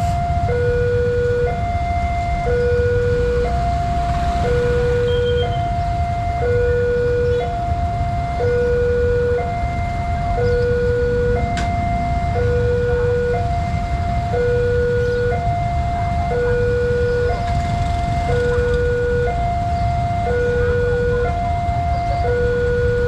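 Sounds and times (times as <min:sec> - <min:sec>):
motorcycle engines rumbling: 0:00.0 - 0:23.0
two-tone electronic crossing alarm: 0:00.0 - 0:23.0.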